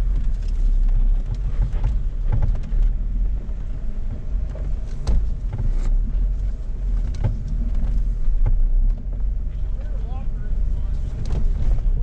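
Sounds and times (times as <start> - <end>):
engine low rumble: 0.0 - 12.0.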